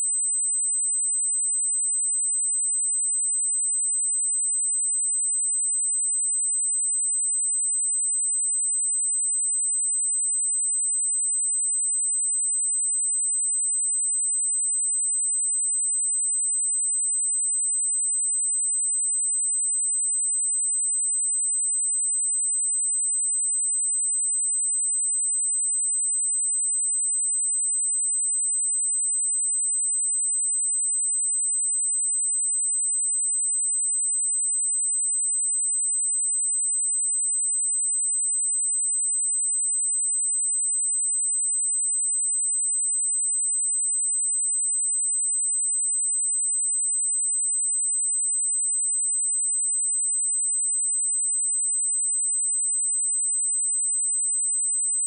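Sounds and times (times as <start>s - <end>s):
high-pitched sine test tone: 0.0s - 55.0s.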